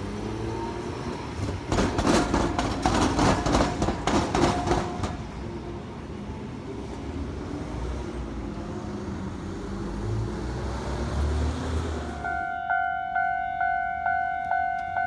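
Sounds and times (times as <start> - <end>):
rumble of passing vehicles: 0.0 - 12.6.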